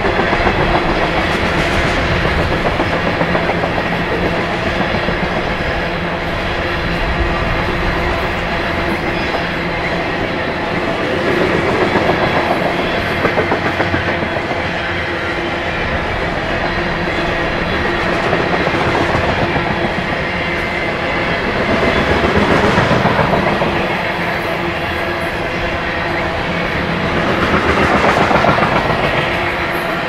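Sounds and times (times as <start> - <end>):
freight train rolling past: 0.0 - 30.0.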